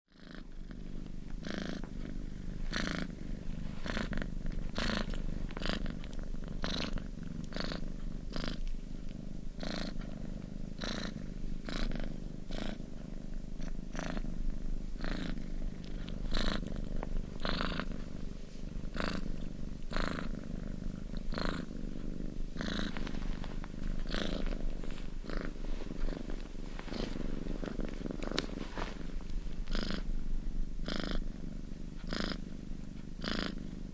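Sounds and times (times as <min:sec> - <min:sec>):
cat purring: 0:00.1 - 0:33.9.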